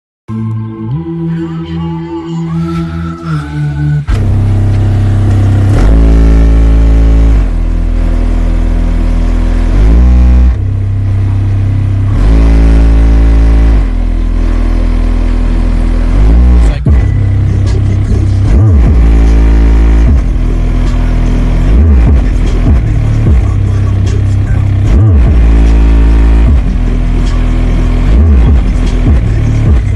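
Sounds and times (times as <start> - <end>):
subwoofers playing deep bass: 0.3 - 29.9.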